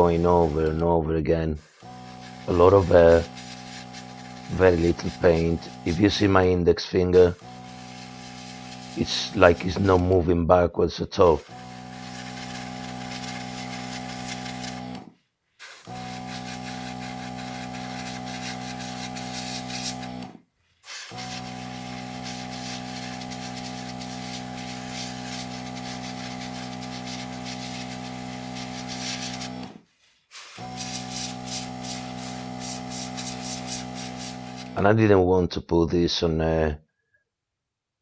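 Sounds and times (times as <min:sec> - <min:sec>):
airbrush spraying hiss: 0:00.0 - 0:00.8, 0:01.6 - 0:06.4, 0:07.2 - 0:10.2, 0:11.2 - 0:15.0, 0:15.6 - 0:20.2, 0:20.8 - 0:34.8
compressor humming: 0:00.0 - 0:10.3, 0:11.2 - 0:34.8.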